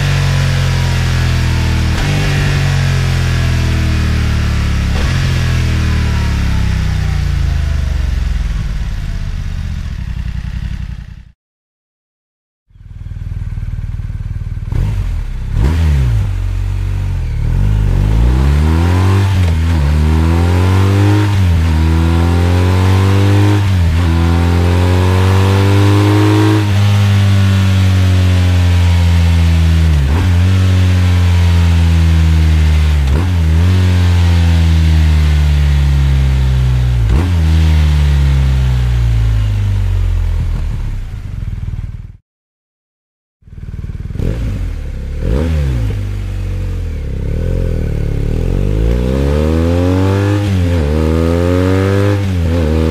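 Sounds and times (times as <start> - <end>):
motorcycle engine revving: 0.0 - 11.4, 12.7 - 42.2, 43.4 - 52.9.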